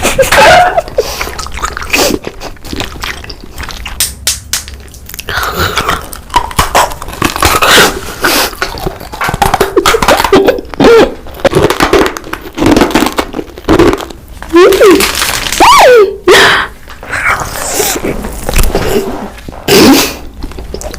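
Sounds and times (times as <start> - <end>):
biting and chewing: 1.0 - 15.6, 17.4 - 19.7.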